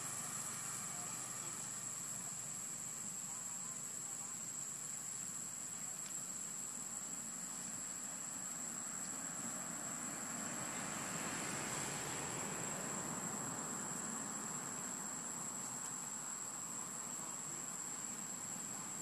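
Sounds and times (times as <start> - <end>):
background hiss: 0.0 - 19.0
crickets chirping: 0.0 - 19.0.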